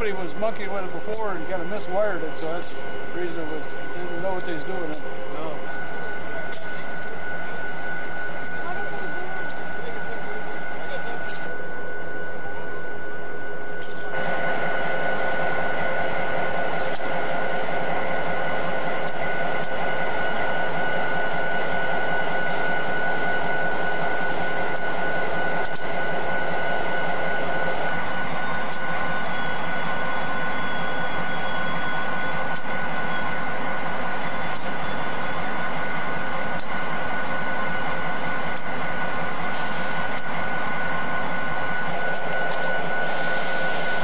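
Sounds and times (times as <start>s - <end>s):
constant high tone: 0.0s - 44.0s
locomotive engine idling: 0.0s - 44.0s.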